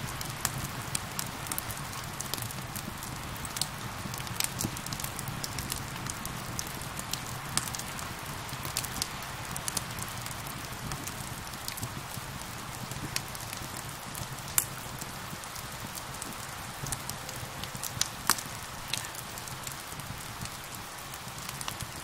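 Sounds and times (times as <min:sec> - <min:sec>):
rain hissing: 0:00.0 - 0:22.0
wood fire crackling: 0:00.0 - 0:22.0.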